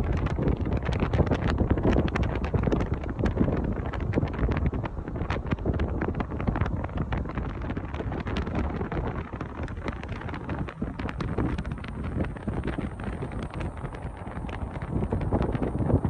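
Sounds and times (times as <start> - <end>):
moving car rumble: 0.0 - 16.0
wind buffeting microphone: 0.0 - 16.0.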